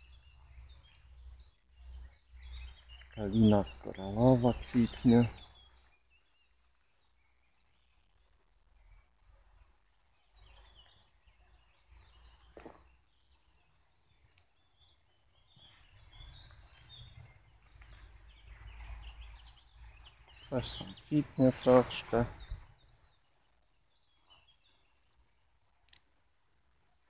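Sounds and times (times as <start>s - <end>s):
faint bird chirps: 0.0s - 27.0s.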